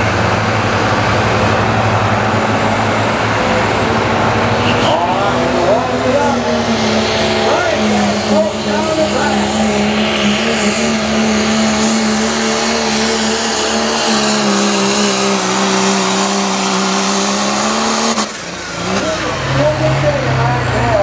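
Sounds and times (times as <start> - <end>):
diesel engine at full load: 0.0 - 21.0.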